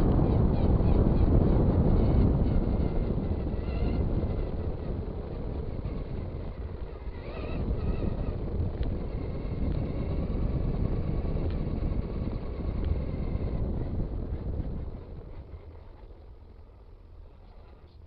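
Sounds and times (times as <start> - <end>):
rc car tyres and motor rumble: 0.0 - 18.0
wind noise on microphone: 0.0 - 18.0.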